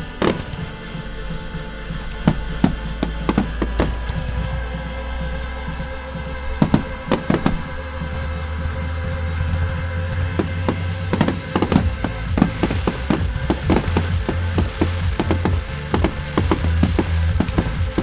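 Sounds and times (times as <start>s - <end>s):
fireworks banging: 0.0s - 18.0s
music with deep bass: 0.0s - 18.0s.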